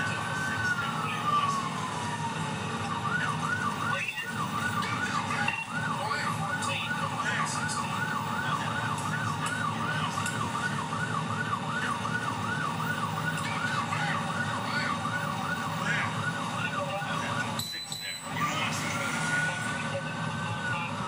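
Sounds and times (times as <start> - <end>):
car engine and tyres rumbling: 0.0 - 21.0
police siren yelping: 0.0 - 21.0.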